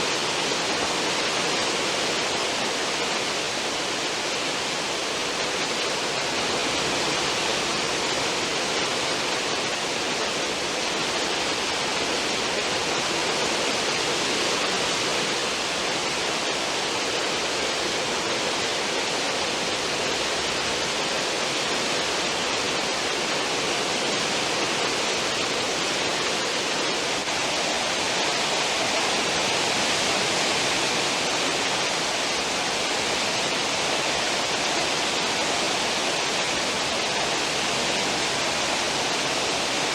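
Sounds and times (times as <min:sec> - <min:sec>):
churning foaming water: 0:00.0 - 0:39.9.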